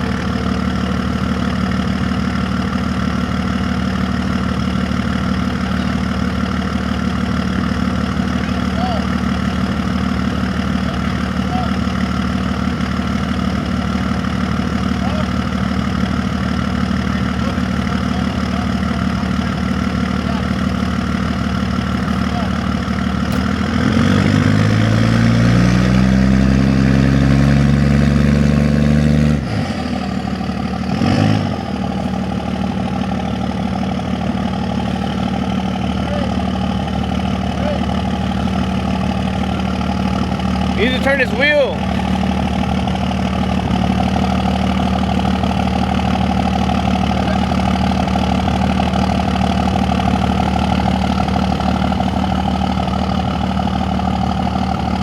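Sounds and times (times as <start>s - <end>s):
truck engine idling and revving: 0.0s - 55.0s.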